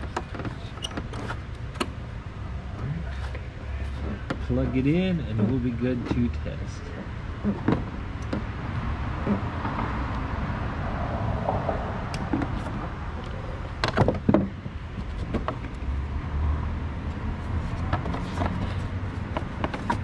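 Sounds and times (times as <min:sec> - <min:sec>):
steady low rumble: 0:01.4 - 0:17.9.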